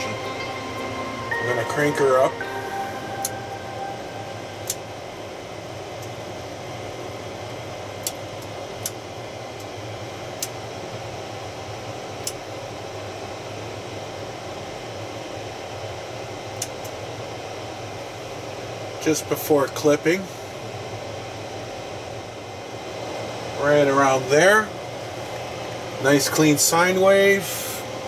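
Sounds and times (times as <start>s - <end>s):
equipment fan hum: 0.0s - 28.0s.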